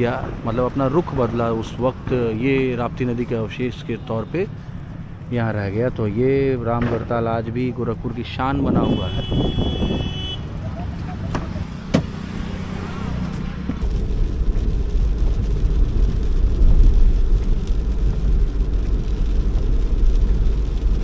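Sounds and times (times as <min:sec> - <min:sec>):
car rumbling on the move: 0:00.0 - 0:21.0.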